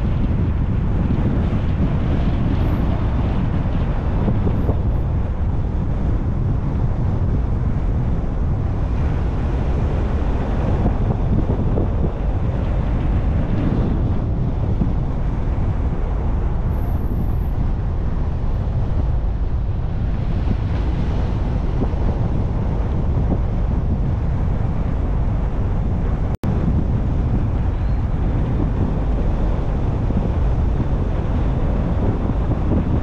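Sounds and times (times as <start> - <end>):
wind and road noise from car: 0.0 - 33.0.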